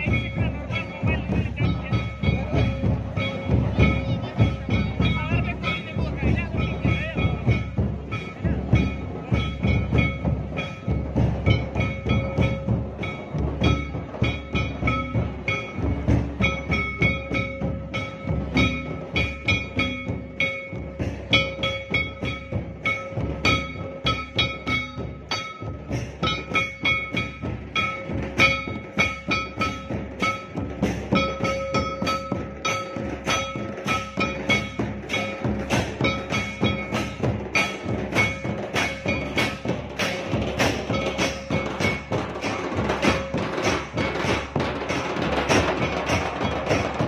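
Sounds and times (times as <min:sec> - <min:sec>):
drums beaten with sticks: 0:00.0 - 0:47.0.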